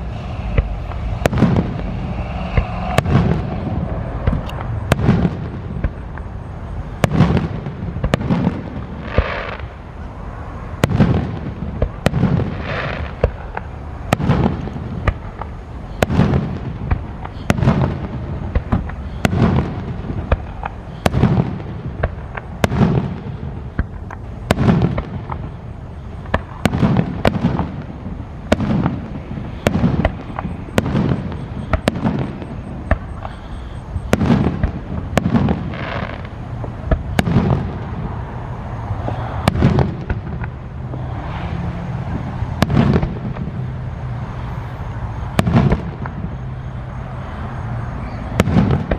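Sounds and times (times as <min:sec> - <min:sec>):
fireworks cracking and booming: 0:00.0 - 0:10.0, 0:10.7 - 0:46.9, 0:48.1 - 0:48.9
whistling fireworks: 0:00.0 - 0:48.9.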